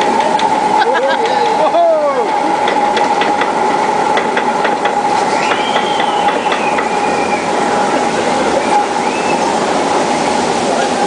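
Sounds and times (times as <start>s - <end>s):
conveyor mechanical hum: 0.0s - 11.0s.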